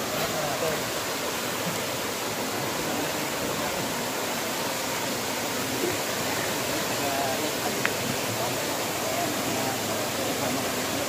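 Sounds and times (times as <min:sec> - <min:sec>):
river water cascading over rocks: 0:00.0 - 0:11.0.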